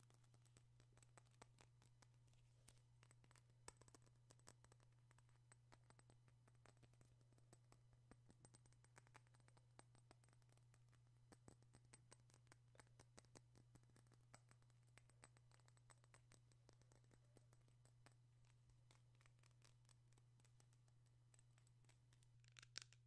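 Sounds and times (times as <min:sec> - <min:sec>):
faint light clicks and ticks: 0:00.0 - 0:23.0.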